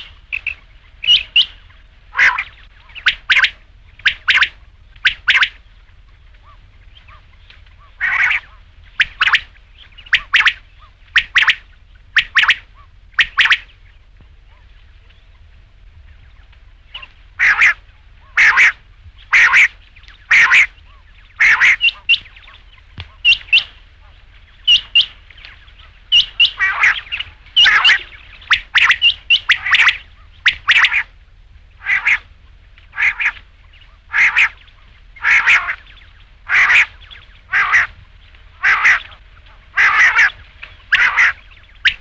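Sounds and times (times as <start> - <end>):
quail calling: 0.0 - 15.5, 16.2 - 42.0.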